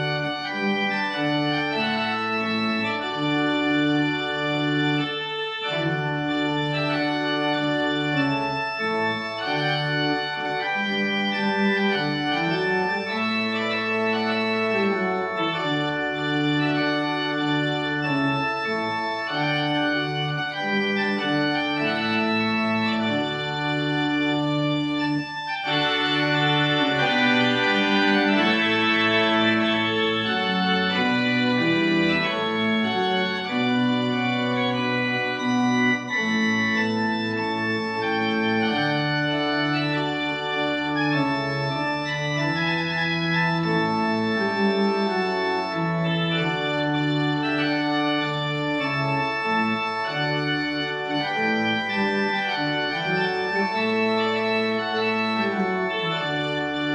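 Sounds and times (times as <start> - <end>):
church organ chords: 0.0 - 56.9.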